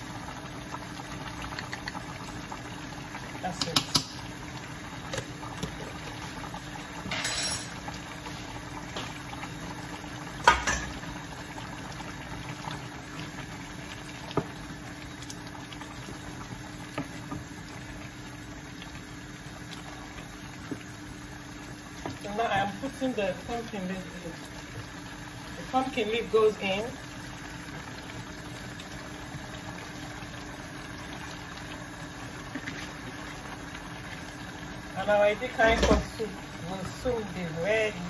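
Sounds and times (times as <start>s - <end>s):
soup bubbling in pot: 0.0s - 38.0s.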